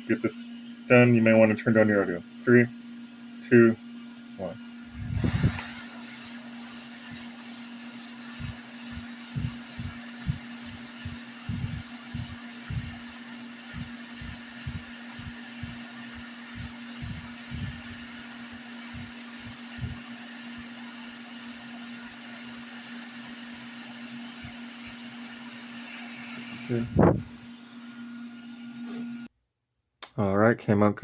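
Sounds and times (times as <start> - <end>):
hot air station blowing: 0.0 - 29.3.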